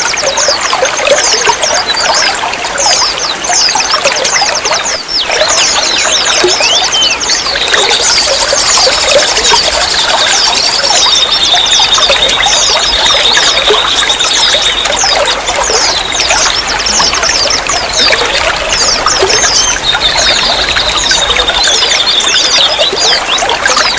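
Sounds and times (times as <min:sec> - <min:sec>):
water trickling and splashing: 0:00.0 - 0:23.9.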